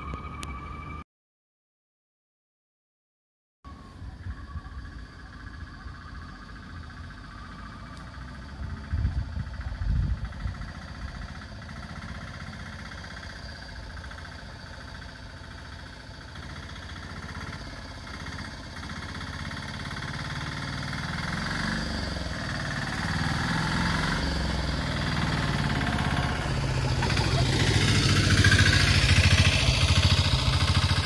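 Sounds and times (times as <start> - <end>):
auto-rickshaw engine chugging: 3.7 - 31.0.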